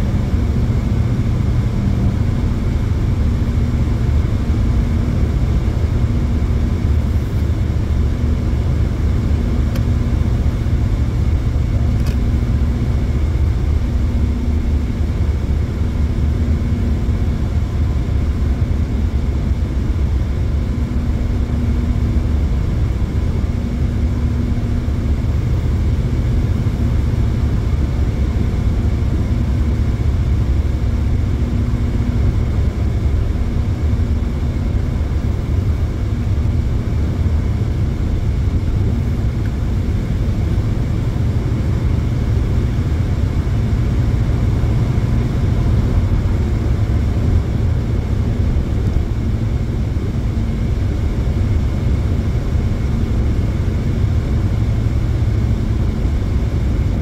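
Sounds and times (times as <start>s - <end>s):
road and tyre rumble in car cabin: 0.0s - 57.0s.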